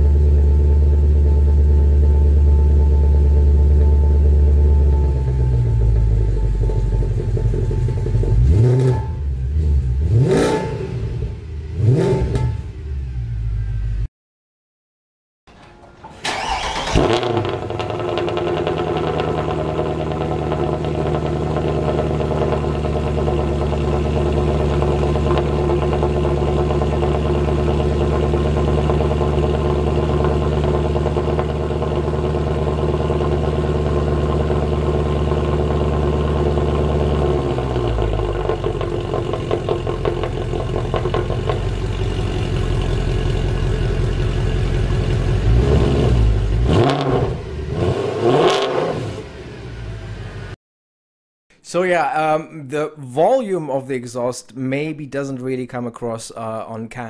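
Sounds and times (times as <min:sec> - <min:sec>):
car engine starting and idling: 0:00.0 - 0:14.1, 0:15.5 - 0:50.6.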